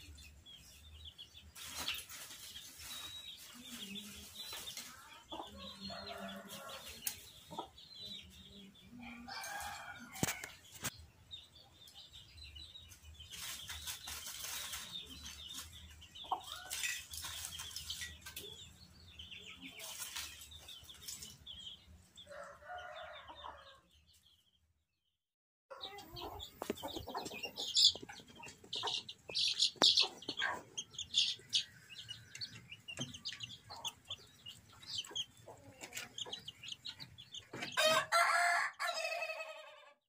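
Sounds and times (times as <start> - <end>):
chicks peeping: 0.0 - 24.6, 25.7 - 40.0.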